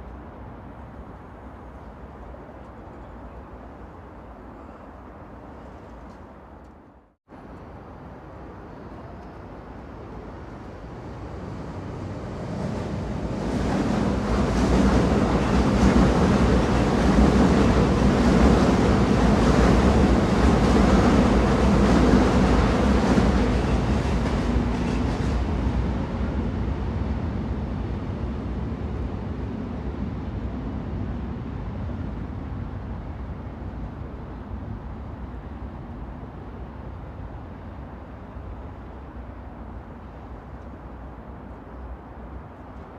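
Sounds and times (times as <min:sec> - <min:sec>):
train passing: 0:00.0 - 0:42.9.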